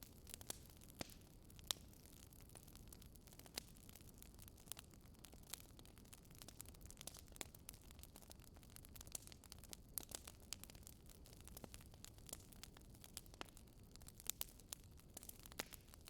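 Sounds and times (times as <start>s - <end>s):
faint wood fire crackling: 0.0s - 16.0s.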